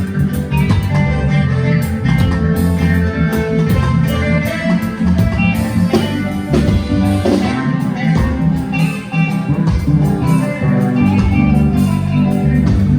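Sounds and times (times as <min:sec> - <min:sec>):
drums with steady beat: 0:00.0 - 0:12.9
guitar lines: 0:00.0 - 0:12.9
heavy bass: 0:00.0 - 0:12.9.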